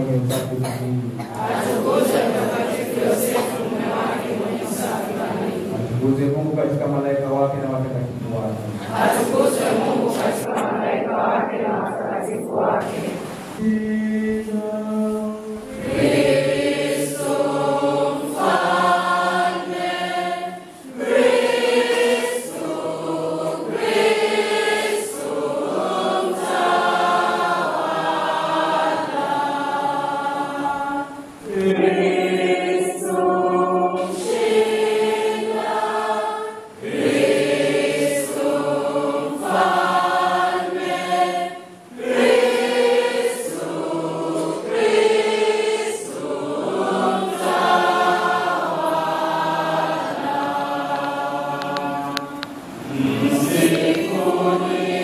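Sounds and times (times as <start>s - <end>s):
church choir singing a hymn: 0.0s - 6.4s, 8.6s - 55.0s.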